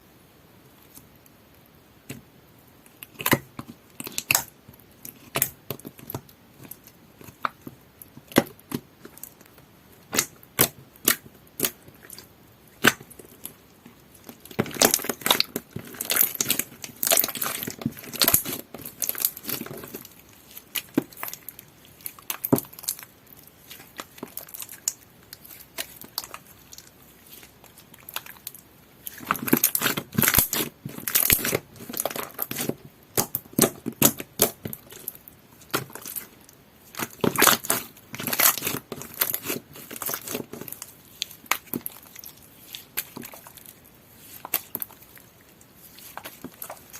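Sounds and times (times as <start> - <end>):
slime crackling and squelching: 2.0 - 46.9.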